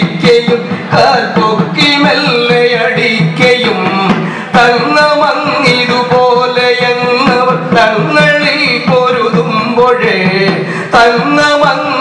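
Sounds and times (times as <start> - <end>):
person singing: 0.0 - 12.0
sharp percussion strikes: 0.0 - 12.0.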